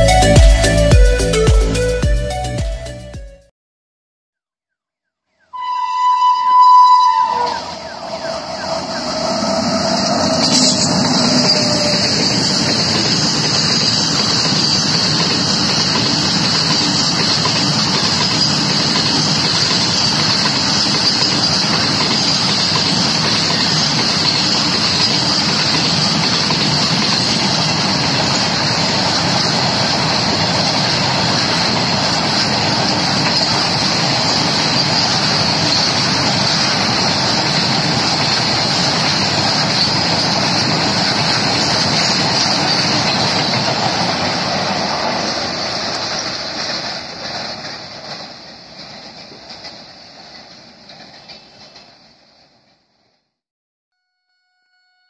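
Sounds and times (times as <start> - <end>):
freight train wheels rumbling: 6.4 - 52.9.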